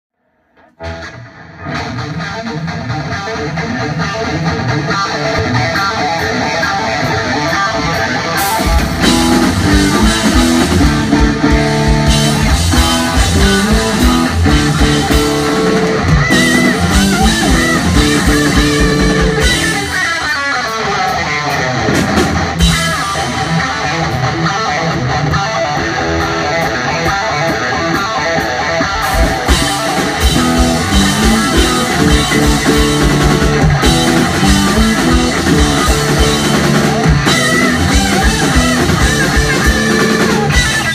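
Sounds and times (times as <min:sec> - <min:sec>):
electric guitar: 0:00.2 - 0:40.9
electric bass: 0:00.7 - 0:28.1, 0:28.7 - 0:40.9
drum kit: 0:00.8 - 0:40.9.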